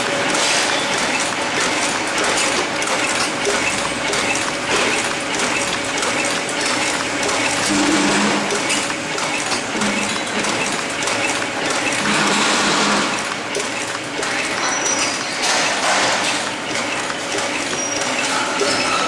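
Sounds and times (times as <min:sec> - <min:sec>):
packaging machine clattering: 0:00.0 - 0:19.0.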